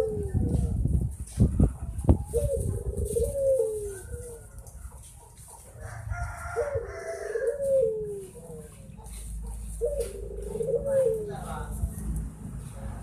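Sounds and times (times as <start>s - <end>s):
dove cooing: 0.0s - 1.0s, 1.6s - 12.0s.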